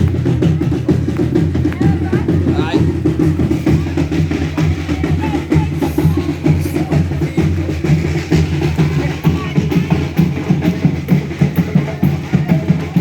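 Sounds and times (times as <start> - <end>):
band playing: 0.0 - 13.0
drums beating a rhythm: 0.0 - 13.0.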